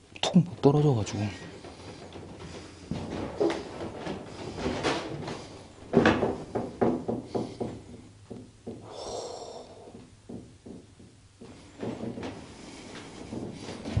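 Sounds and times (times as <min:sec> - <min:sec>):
crunches and knocks: 0:01.4 - 0:08.9, 0:09.9 - 0:14.0.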